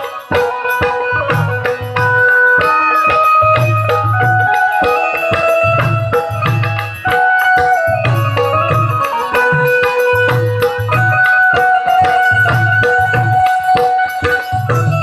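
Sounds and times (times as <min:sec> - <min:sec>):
hand drums beating: 0:00.0 - 0:15.0
jingling percussion: 0:00.0 - 0:15.0
melody instrument: 0:00.0 - 0:15.0.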